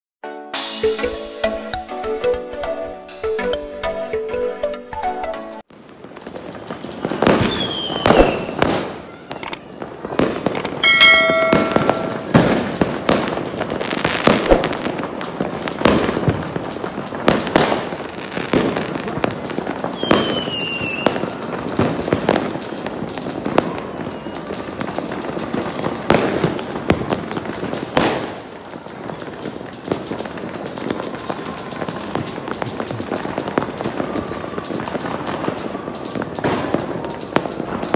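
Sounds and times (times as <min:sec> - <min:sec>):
fireworks bangs and crackles: 0:05.6 - 0:37.9
falling firework whistles: 0:06.2 - 0:37.9.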